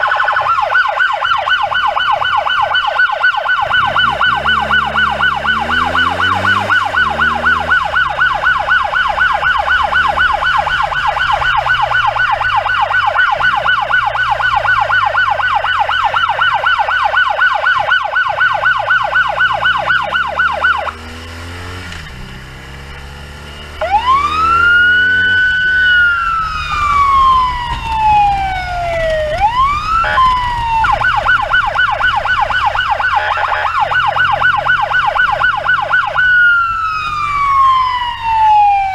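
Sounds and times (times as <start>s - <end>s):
ambulance siren: 0.0s - 38.9s
engine and traffic rumble: 0.0s - 38.9s.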